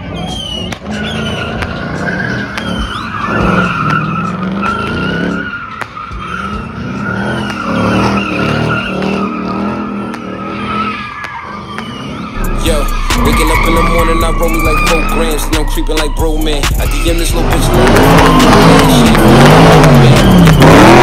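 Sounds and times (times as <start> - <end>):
car engine revving: 0.0 - 21.0
tires squealing: 0.0 - 21.0.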